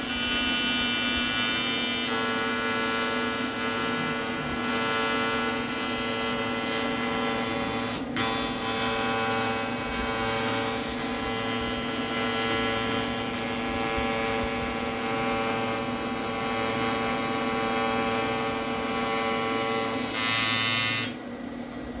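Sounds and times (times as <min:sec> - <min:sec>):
welding arc buzzing and hissing: 0:00.0 - 0:21.2.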